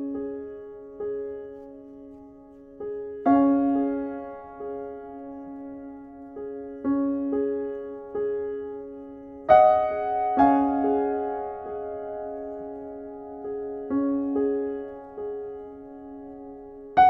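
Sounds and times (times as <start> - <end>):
gentle solo piano: 0.0 - 17.0.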